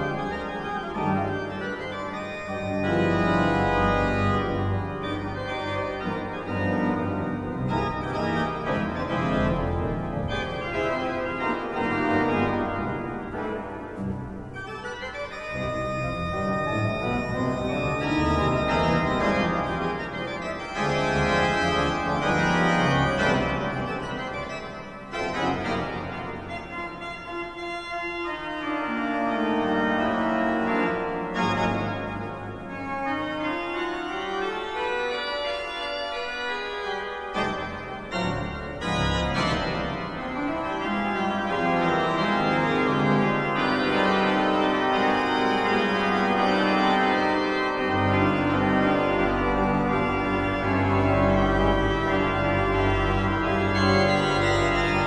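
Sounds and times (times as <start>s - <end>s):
pipe organ playing chords: 0.0s - 55.0s.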